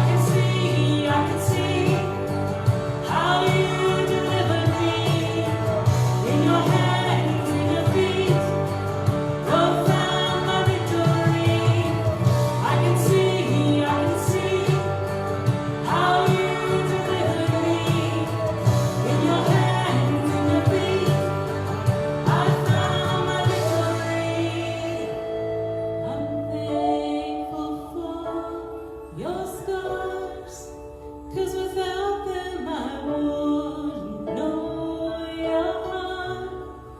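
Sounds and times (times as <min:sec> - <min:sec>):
band chords: 0:00.0 - 0:31.1
worship song singing: 0:00.0 - 0:36.9.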